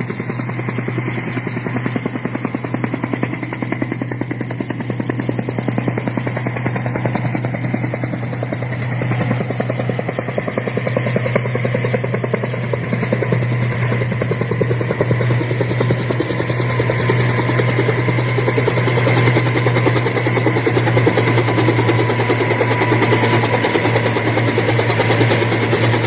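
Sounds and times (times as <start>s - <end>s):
helicopter rotor beating: 0.0s - 26.0s.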